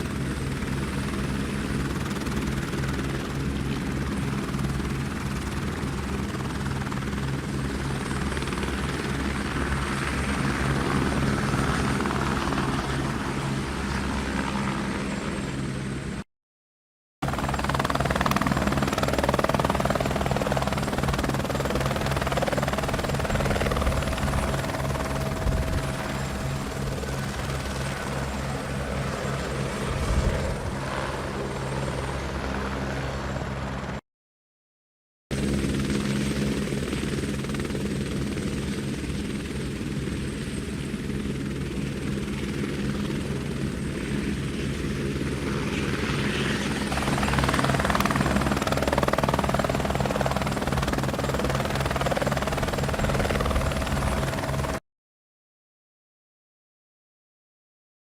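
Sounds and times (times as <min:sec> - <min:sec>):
helicopter rotor beating: 0:00.0 - 0:16.2, 0:17.2 - 0:34.0, 0:35.3 - 0:54.8.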